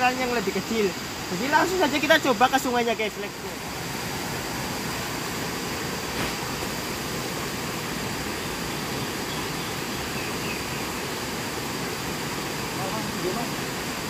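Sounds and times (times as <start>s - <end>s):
stream flowing over rocks: 0.0s - 14.0s.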